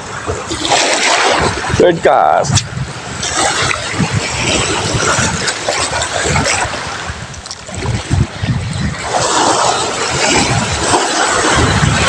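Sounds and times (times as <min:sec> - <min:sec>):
waves washing on shore: 0:00.0 - 0:12.0
wind gusting on microphone: 0:00.0 - 0:12.0.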